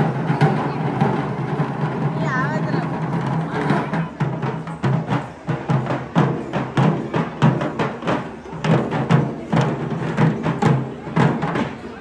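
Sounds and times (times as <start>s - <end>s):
drums beating a driving rhythm: 0.0s - 12.0s.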